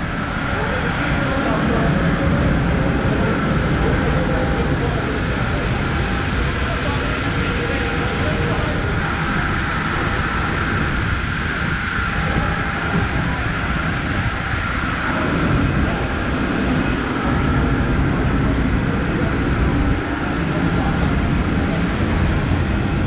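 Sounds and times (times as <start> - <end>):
high-pitched whine: 0.0 - 23.0
machinery rumble: 0.0 - 23.0.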